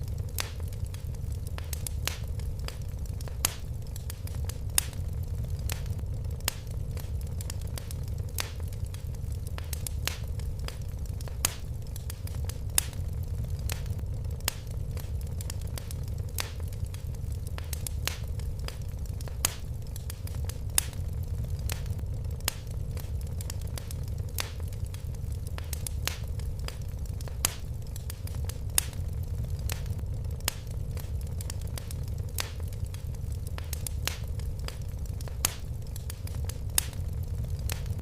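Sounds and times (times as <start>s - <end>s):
fireplace fire crackling: 0.0s - 38.0s.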